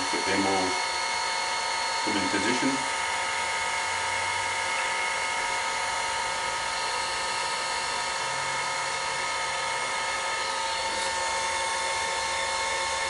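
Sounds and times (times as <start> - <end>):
heat gun fan whine: 0.0 - 13.0.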